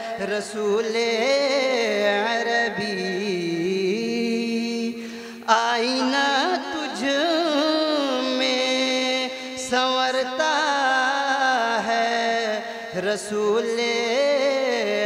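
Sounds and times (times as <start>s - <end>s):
man singing through microphone: 0.0s - 15.0s.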